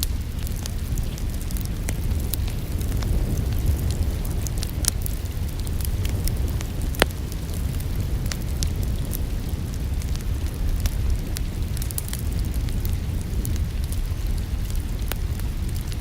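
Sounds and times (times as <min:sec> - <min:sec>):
rain: 0:00.0 - 0:16.0
wood fire crackling: 0:00.0 - 0:16.0.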